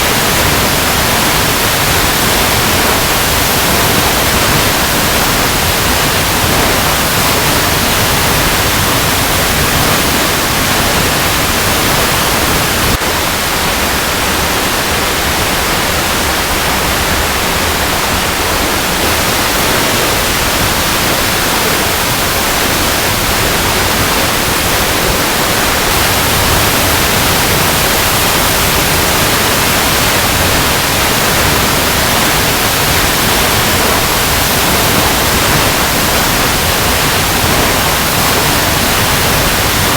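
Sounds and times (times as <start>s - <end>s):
waterfall over rocks: 0.0s - 39.9s.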